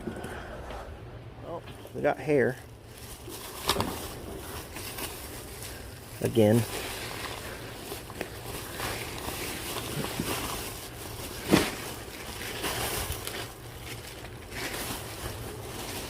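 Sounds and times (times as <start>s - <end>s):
rustling of items unpacked: 2.7s - 16.0s.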